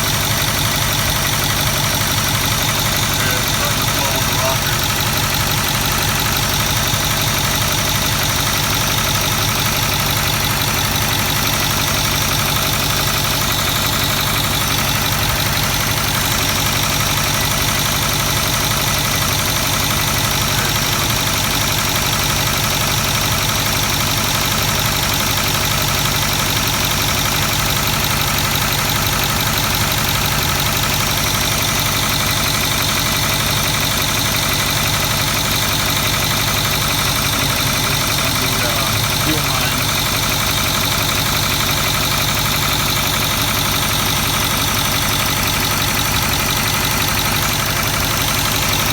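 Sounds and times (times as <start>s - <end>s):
diesel engine idling: 0.0s - 48.9s
valve train ticking clatter: 0.0s - 48.9s.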